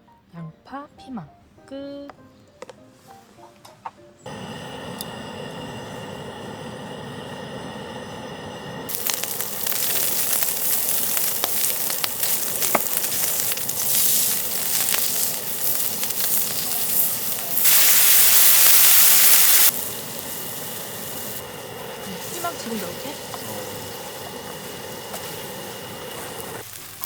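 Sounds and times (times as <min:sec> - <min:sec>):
food sizzling on a griddle: 0:04.3 - 0:27.0
loud hiss: 0:04.3 - 0:27.0.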